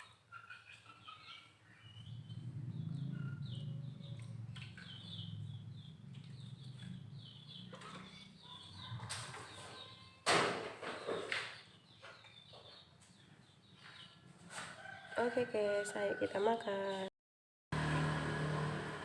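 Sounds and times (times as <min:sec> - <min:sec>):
small birds chirping: 0:00.0 - 0:10.2, 0:11.0 - 0:17.1.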